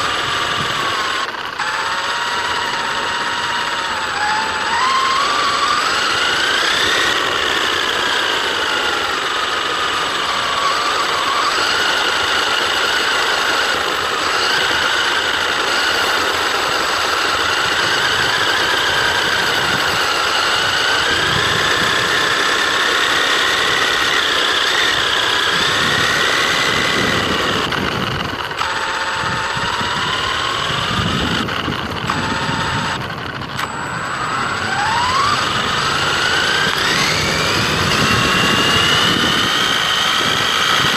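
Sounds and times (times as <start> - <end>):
electric motor whining: 0.0 - 40.9.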